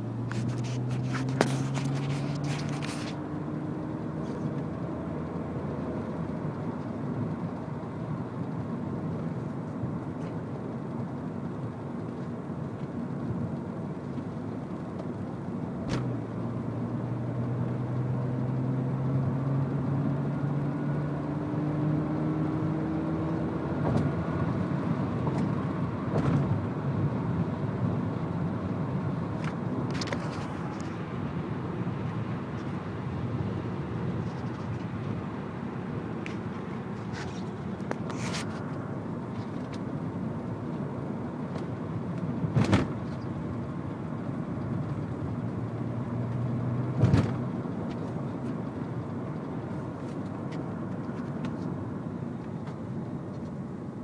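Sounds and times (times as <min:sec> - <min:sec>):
car road noise with low hum: 0:00.0 - 0:54.0.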